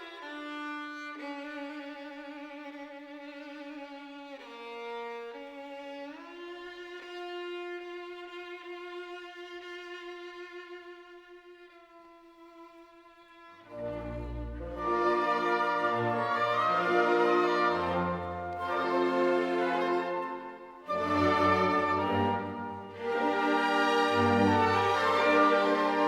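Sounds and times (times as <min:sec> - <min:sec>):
bowed string melody: 0:00.0 - 0:26.0.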